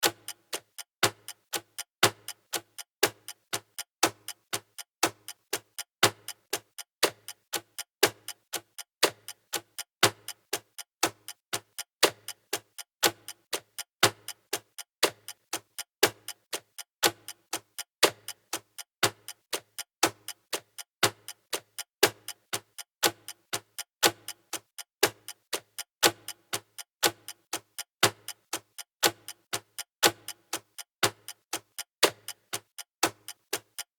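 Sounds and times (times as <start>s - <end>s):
clock ticking: 0.0s - 33.9s.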